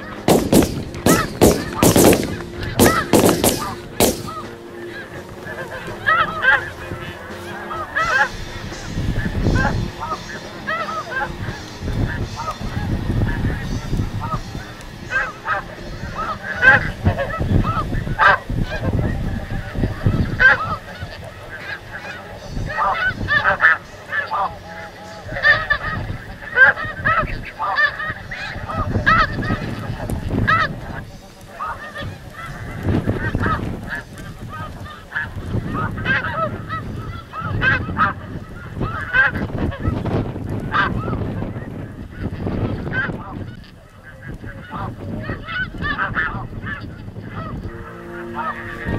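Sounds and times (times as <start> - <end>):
geese calling: 0.0 - 48.9
wind on microphone: 0.0 - 48.9.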